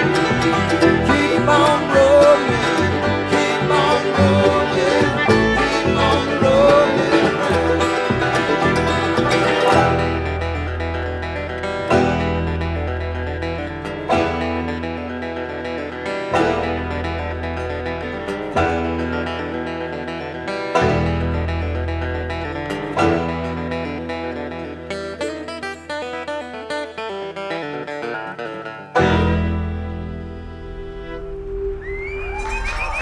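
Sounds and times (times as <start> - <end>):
bluegrass band playing: 0.0 - 31.8.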